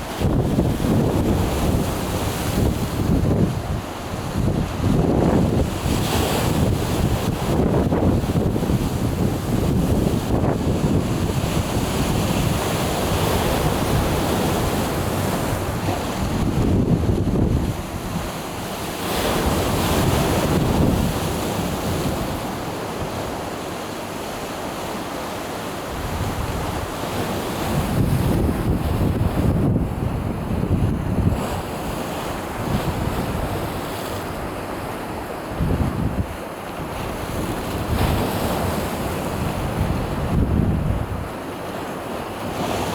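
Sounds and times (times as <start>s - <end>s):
wind on microphone: 0.0s - 18.5s, 19.2s - 22.6s, 26.0s - 34.5s, 35.5s - 41.4s
sea surf washing on shore: 0.0s - 42.9s.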